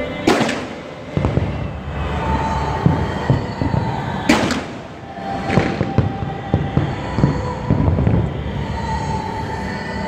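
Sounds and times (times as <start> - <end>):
firework sharp crack: 0.1 - 8.3
fireworks booms and pops: 0.3 - 8.4.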